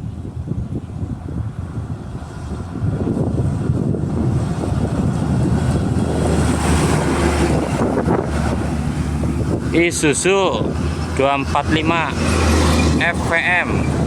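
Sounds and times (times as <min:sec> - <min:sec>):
heavy traffic passing: 0:00.0 - 0:14.0.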